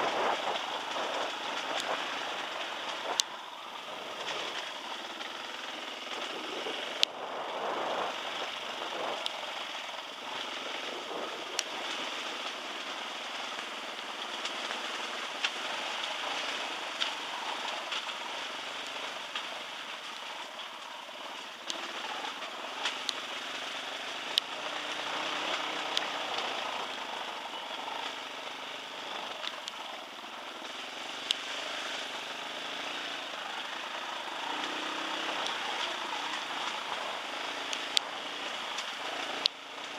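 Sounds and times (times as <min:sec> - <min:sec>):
dirt bike riding rushing noise: 0:00.0 - 0:39.9.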